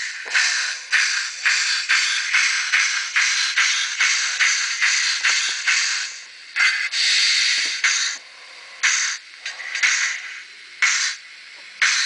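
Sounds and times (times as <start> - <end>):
steam hiss: 0.0 - 12.0
steam locomotive chuffs: 0.0 - 12.0.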